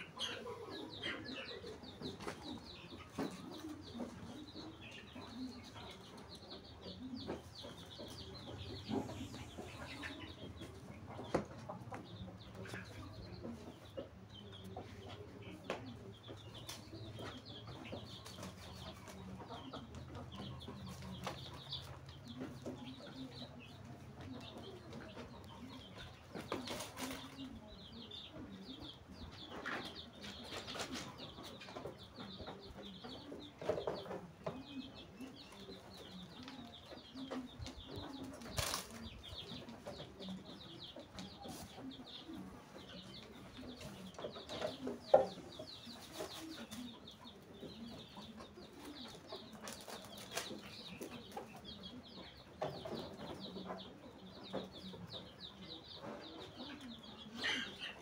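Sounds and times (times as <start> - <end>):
birds chirping: 0.0 - 58.0
low clucking: 0.0 - 58.0.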